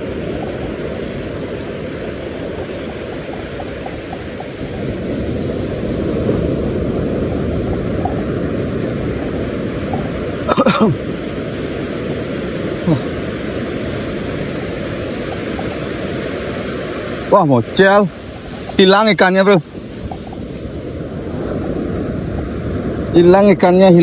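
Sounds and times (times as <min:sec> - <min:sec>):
surf on the shore: 0:00.0 - 0:24.0
wind: 0:00.0 - 0:24.0.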